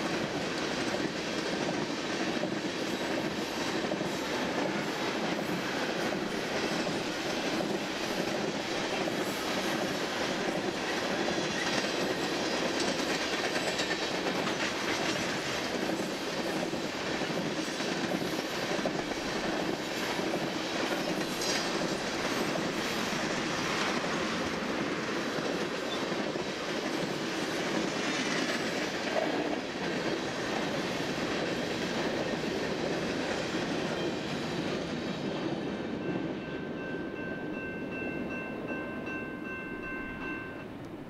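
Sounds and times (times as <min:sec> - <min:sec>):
freight train rolling past: 0:00.0 - 0:41.0.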